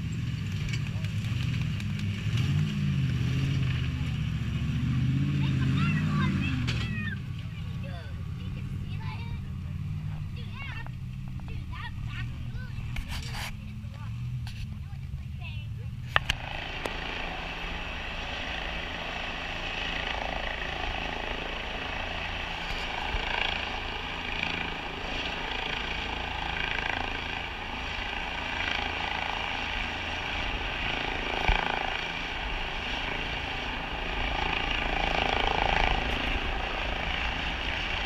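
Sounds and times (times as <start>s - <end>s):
helicopter flying low overhead: 0.0s - 38.0s.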